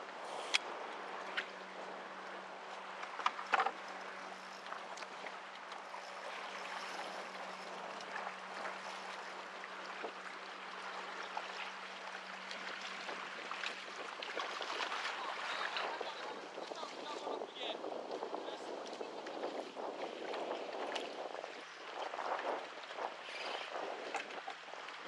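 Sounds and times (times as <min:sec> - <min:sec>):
water lapping against kayak hull: 0:00.0 - 0:25.0
wind: 0:00.0 - 0:25.0.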